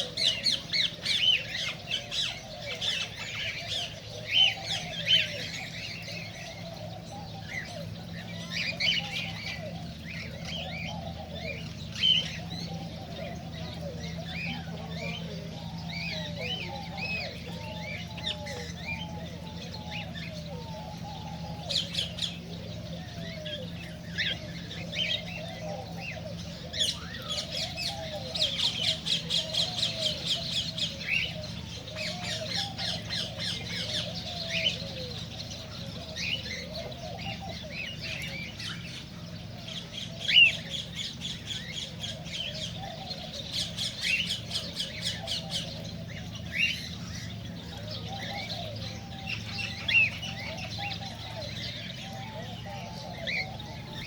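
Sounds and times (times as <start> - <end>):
cockatiels chirping and squawking: 0.0 - 54.0
steady low hum: 0.0 - 54.0.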